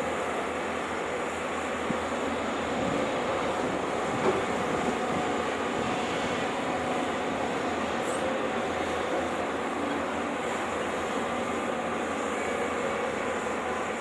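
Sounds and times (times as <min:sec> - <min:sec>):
excavator engine droning: 0:00.0 - 0:14.0.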